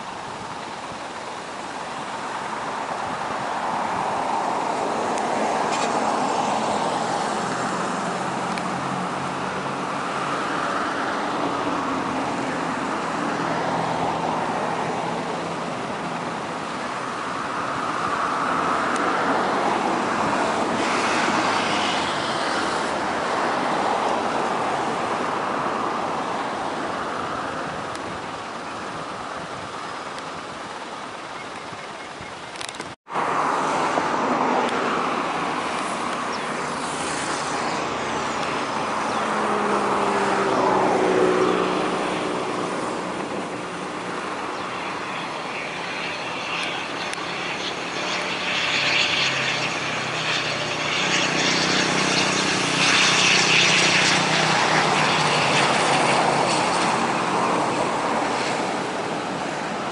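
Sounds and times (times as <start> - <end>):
airliner propeller drone: 0.0 - 59.9.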